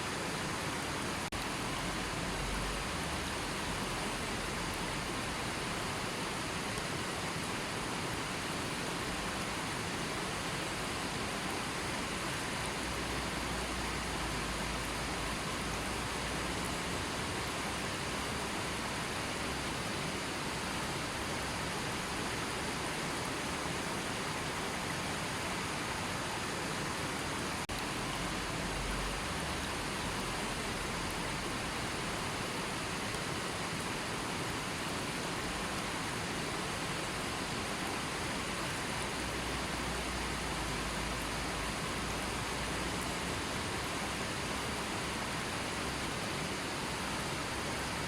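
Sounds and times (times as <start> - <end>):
river water flowing: 0.0 - 48.0.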